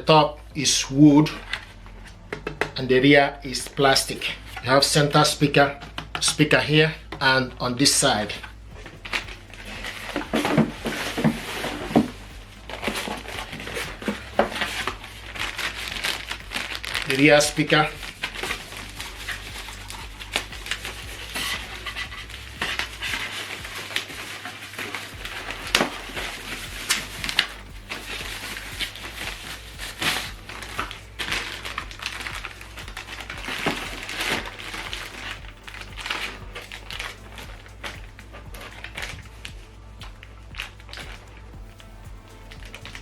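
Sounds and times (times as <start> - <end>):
steady low hum: 0.0 - 43.0
packaging rustling and crinkling: 0.8 - 43.0.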